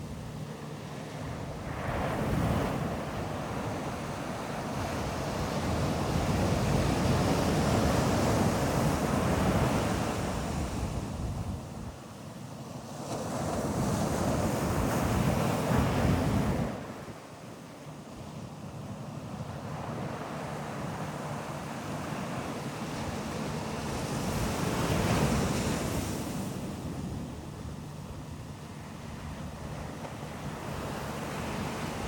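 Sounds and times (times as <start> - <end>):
ocean waves breaking on beach: 0.0 - 32.0.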